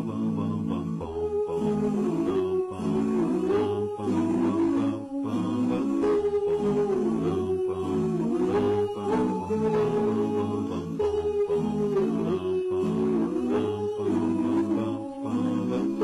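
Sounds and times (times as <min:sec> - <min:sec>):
a cappella voices humming: 0:00.0 - 0:16.0.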